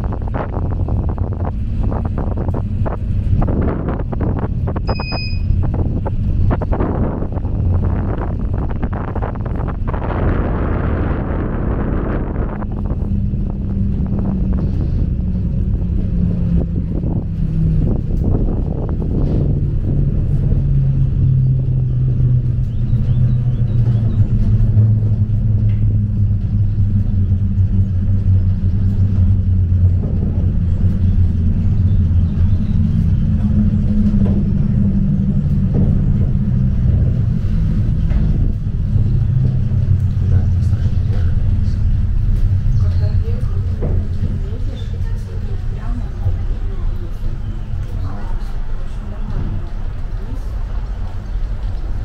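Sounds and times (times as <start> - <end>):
cable car hum: 0.0 - 52.0
cable car low rumble: 0.0 - 52.0.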